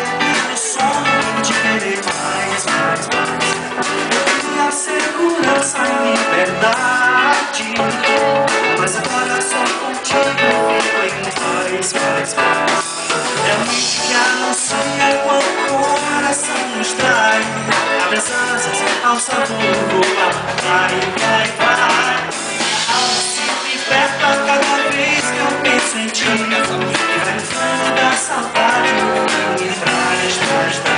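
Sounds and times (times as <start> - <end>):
person singing: 0.0 - 3.5, 4.1 - 30.9
pop-rock band playing: 0.0 - 30.9.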